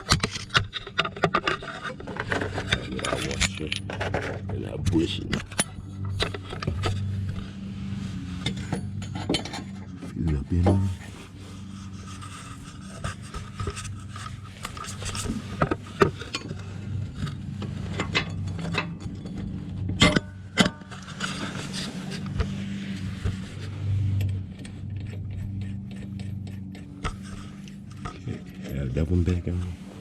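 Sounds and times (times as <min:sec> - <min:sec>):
steady low hum: 0:00.0 - 0:30.0
metal tools clinking and scraping: 0:00.2 - 0:07.7, 0:08.4 - 0:30.0.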